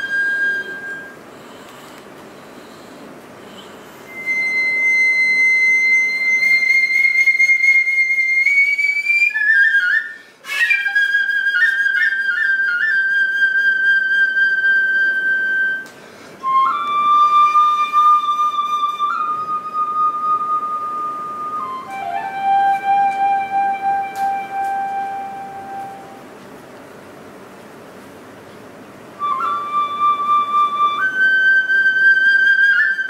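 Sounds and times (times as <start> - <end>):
bamboo flute long notes: 0.0 - 1.4, 3.5 - 26.3, 29.1 - 33.0.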